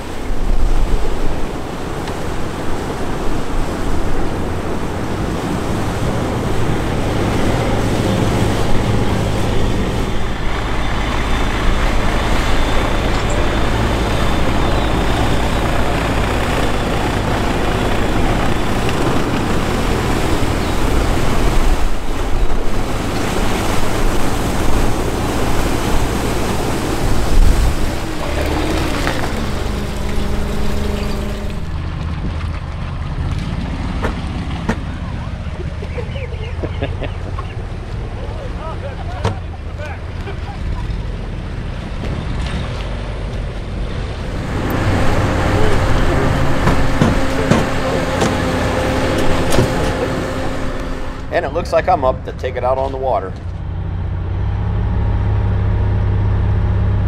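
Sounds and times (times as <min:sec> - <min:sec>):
tyres splashing through water: 0:00.0 - 0:56.9
diesel engine running: 0:03.5 - 0:52.2, 0:52.8 - 0:57.0.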